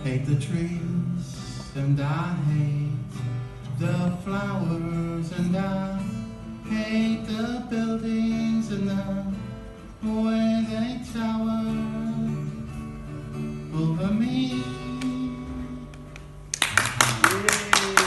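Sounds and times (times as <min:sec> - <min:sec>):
acoustic guitar: 0:00.0 - 0:18.0.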